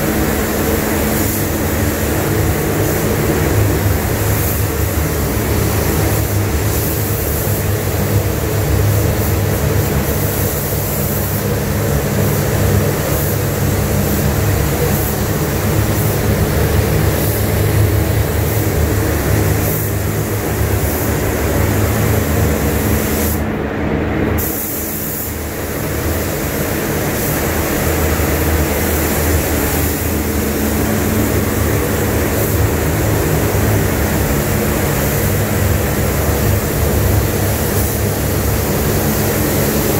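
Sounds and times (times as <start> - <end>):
air spray gun hissing: 0.0 - 23.5, 24.3 - 39.9
ventilation fans humming: 0.0 - 39.9.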